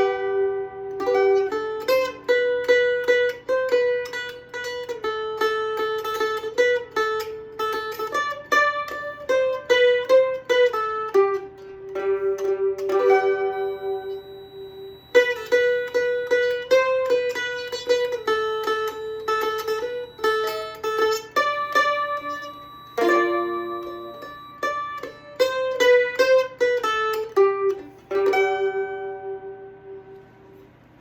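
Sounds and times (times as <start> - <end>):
mandolin playing bluegrass melody: 0.0 - 30.4.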